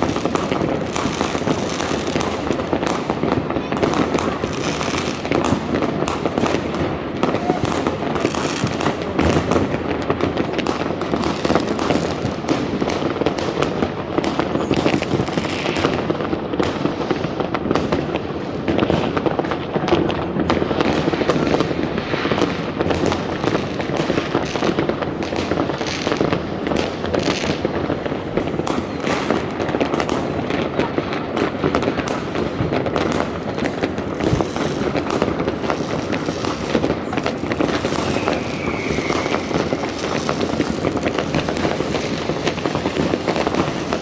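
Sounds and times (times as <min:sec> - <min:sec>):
fireworks and firecrackers banging: 0:00.0 - 0:44.0.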